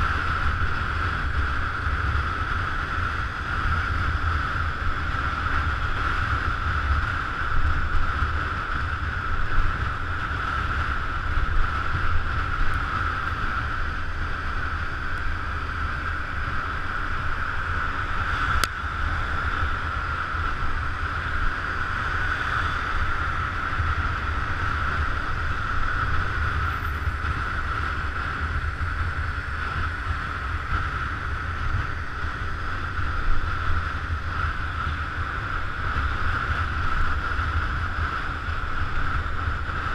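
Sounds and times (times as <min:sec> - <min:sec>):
constant high whine: 0:00.0 - 0:39.9
scooter engine drone: 0:00.0 - 0:39.9.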